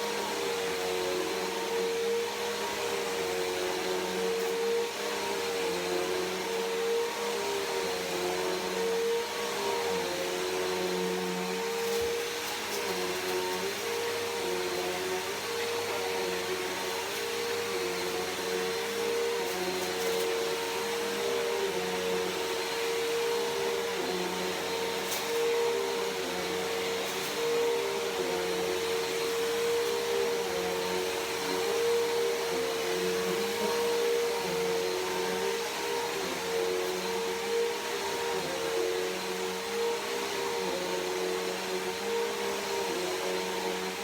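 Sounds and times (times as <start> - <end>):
upright vacuum cleaner running: 0.0 - 44.0.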